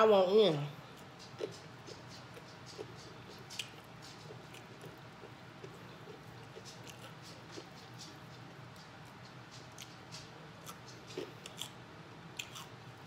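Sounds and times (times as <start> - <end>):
chewing fried chicken: 0.8 - 13.0.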